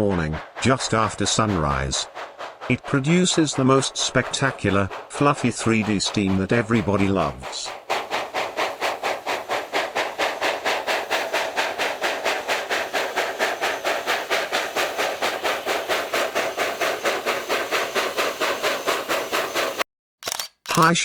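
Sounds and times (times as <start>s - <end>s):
steam locomotive chuffing: 0.0s - 20.8s.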